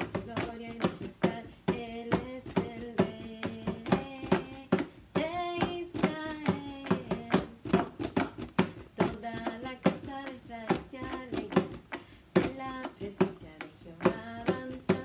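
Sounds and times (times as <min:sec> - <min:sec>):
hand drum beat: 0:00.0 - 0:15.0
woman singing: 0:00.0 - 0:15.0.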